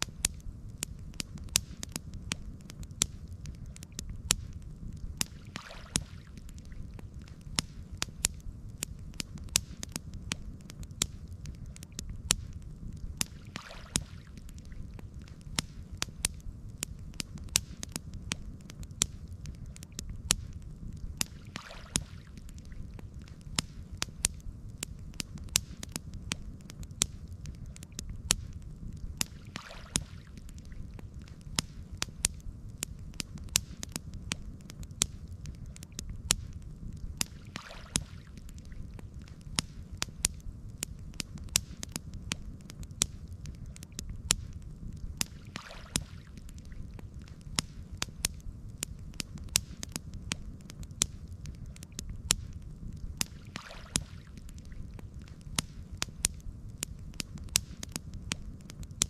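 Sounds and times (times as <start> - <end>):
campfire crackling and popping: 0.0 - 59.0
low fire rumble: 0.0 - 59.0
soft hiss: 0.0 - 59.0.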